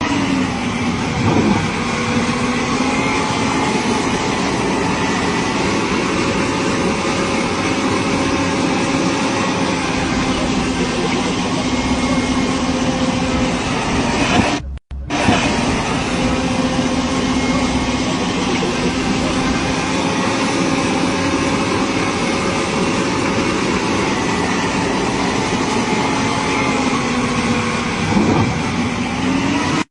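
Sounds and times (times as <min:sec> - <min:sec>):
crane engine droning: 0:00.0 - 0:29.9
mechanical whining tones: 0:00.0 - 0:29.9.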